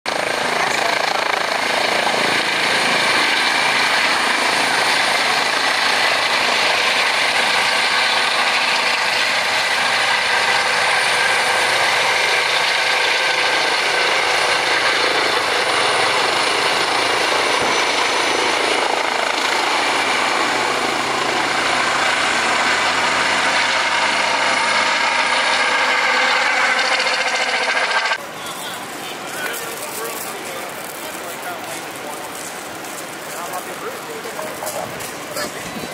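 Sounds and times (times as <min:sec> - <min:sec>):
helicopter rotor and turbine: 0:00.1 - 0:35.9.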